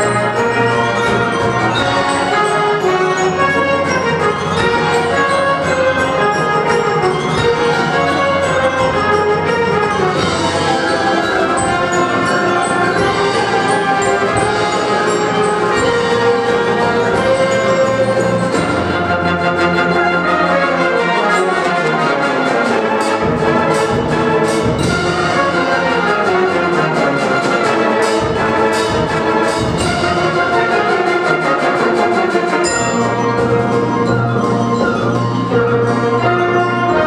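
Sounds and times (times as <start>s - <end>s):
sharp percussion strikes: 0.0s - 37.0s
wind band playing: 0.0s - 37.0s.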